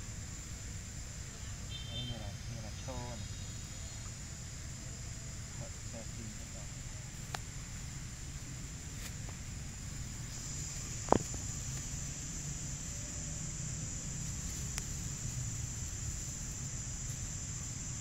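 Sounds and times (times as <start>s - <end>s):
high-pitched insect drone: 0.0s - 18.0s
low outdoor rumble: 0.0s - 18.0s.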